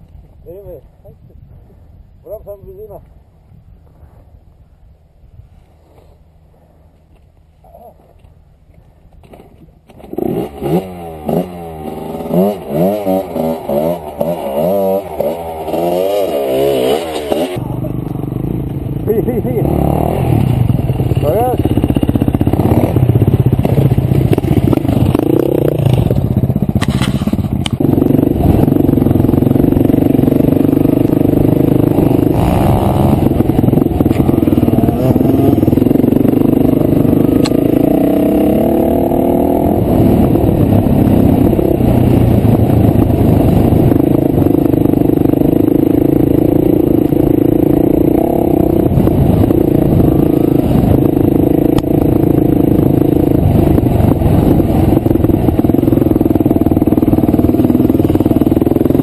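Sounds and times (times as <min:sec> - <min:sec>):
motorcycle engine revving: 0:09.2 - 0:59.0.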